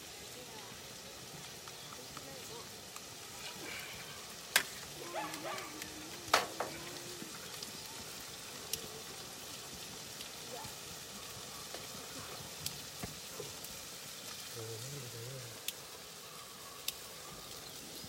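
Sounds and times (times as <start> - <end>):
food frying sizzle: 0.0 - 18.0.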